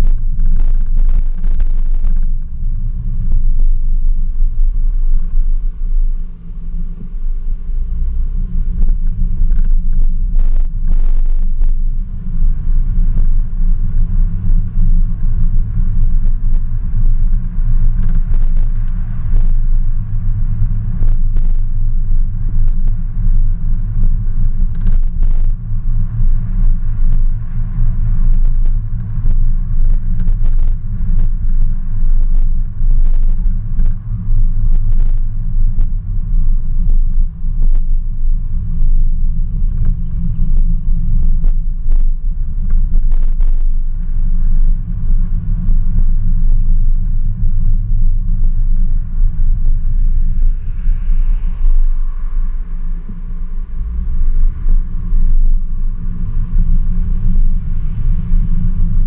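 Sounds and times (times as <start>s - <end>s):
car engine deep rumble: 0.0s - 59.0s.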